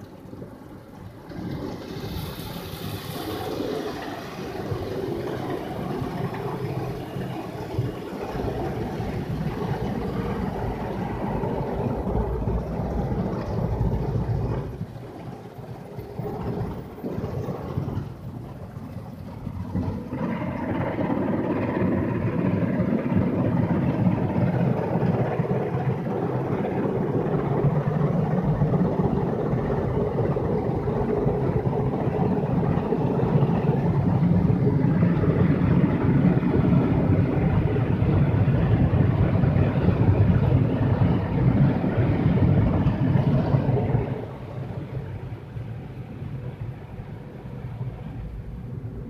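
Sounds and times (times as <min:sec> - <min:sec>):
car wash brushes spinning: 0:00.0 - 0:44.5
water spraying against car: 0:00.0 - 0:49.0.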